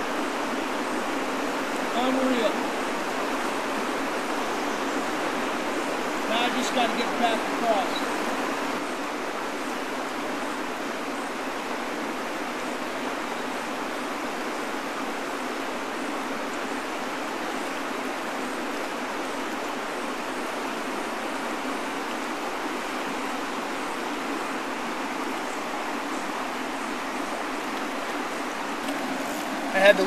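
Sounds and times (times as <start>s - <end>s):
river current rushing: 0.0s - 30.0s.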